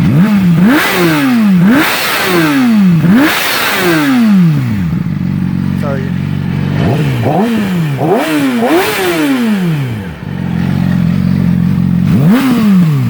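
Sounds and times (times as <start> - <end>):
motorcycle engine revving and idling: 0.0 - 13.0.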